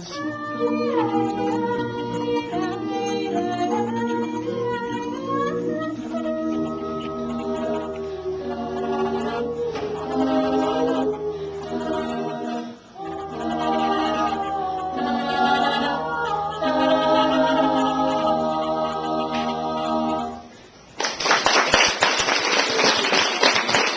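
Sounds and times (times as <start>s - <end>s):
vocal group singing in harmony: 0.0s - 20.7s.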